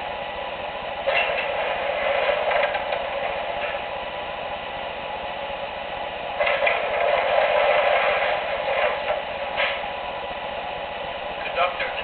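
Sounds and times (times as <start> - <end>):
model train mechanical hum: 0.0 - 12.0.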